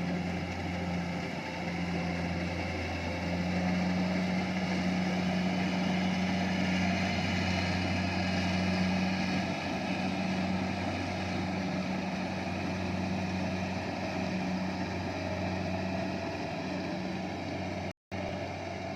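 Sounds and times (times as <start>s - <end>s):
harvester engine running: 0.0s - 18.9s.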